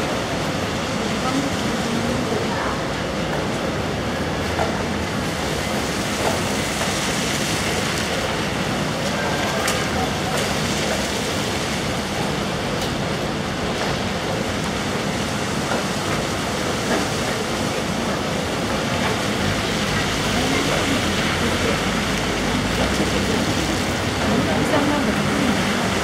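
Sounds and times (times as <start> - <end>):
heavy rain: 0.0 - 26.0
tyres splashing through floodwater: 0.0 - 26.0.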